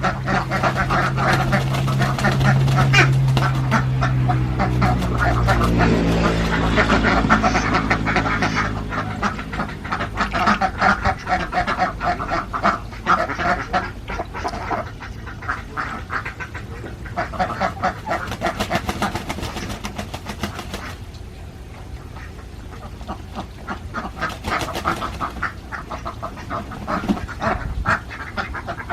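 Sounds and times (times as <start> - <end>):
ducks quacking: 0.0 - 28.9.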